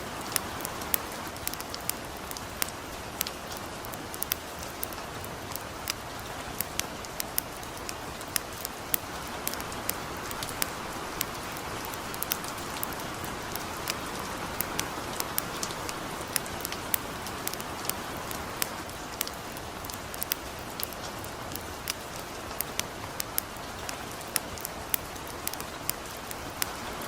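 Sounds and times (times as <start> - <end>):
campfire crackling and popping: 0.0 - 27.0
steady rain hiss: 0.0 - 27.0.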